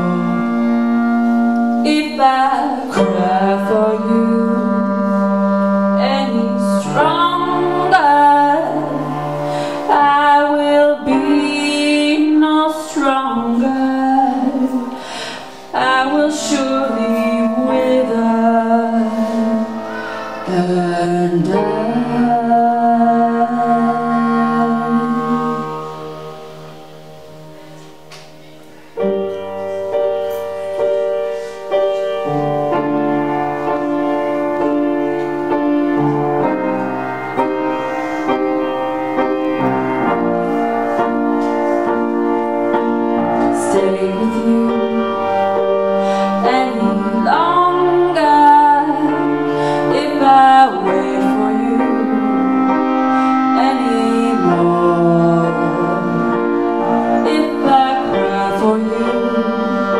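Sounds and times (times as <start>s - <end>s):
clarinet melody with bent notes: 0.0s - 59.9s
piano chords: 0.0s - 59.9s.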